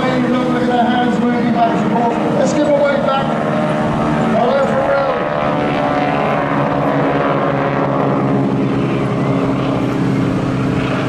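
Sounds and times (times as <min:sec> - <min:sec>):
biplane engines droning: 0:00.0 - 0:11.0.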